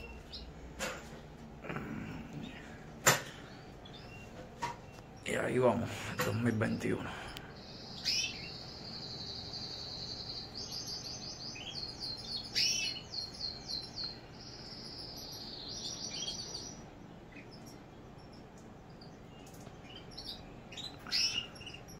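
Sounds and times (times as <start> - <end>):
finches singing fast trills: 3.4 - 21.9.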